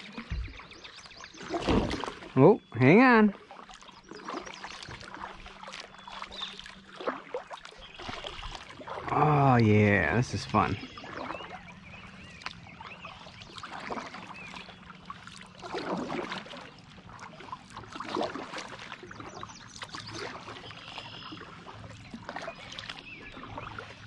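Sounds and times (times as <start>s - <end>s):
kayak paddle strokes: 0.0s - 24.0s
water dripping and splashing: 0.0s - 24.0s.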